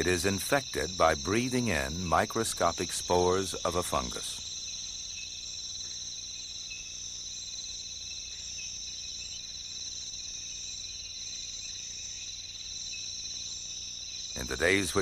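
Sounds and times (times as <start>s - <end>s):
insects trilling in chorus: 0.0s - 15.0s.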